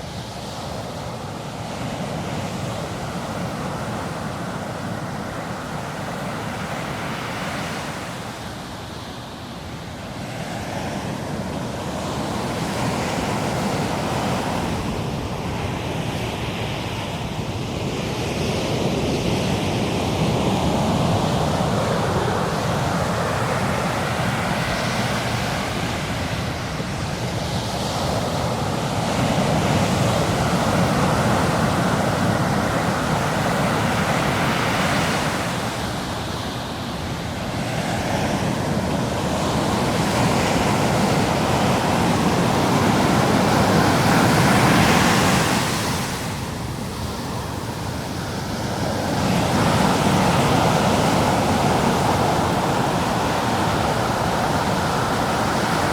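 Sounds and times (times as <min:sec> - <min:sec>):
ocean waves breaking: 0:00.0 - 0:55.9
wind on microphone: 0:10.4 - 0:55.9.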